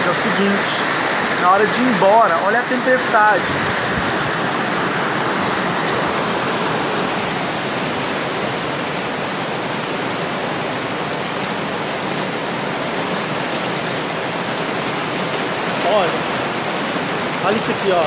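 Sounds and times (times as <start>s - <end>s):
heavy rain pouring on street: 0.0s - 18.0s.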